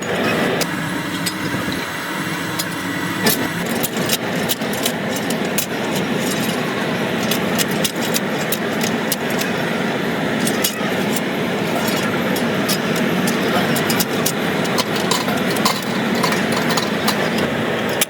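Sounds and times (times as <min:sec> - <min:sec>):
factory machinery running: 0:00.0 - 0:18.0
sharp metallic clicks and knocks: 0:02.5 - 0:18.0.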